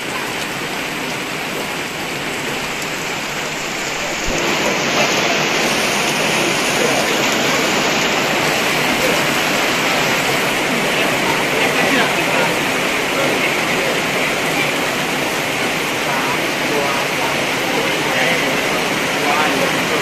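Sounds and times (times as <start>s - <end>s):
rain on grass and paving: 0.0s - 20.0s.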